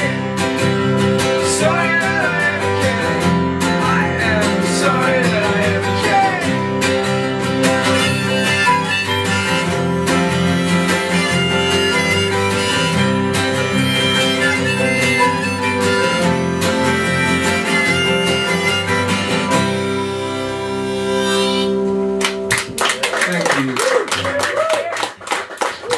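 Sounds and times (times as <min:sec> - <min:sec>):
acoustic guitars strumming: 0:00.0 - 0:22.8
high held melody line: 0:00.0 - 0:23.1
bass: 0:00.0 - 0:25.9.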